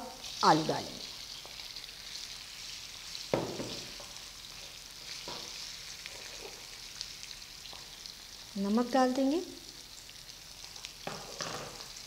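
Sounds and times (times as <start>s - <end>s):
potatoes sizzling in a pan: 0.0s - 12.0s.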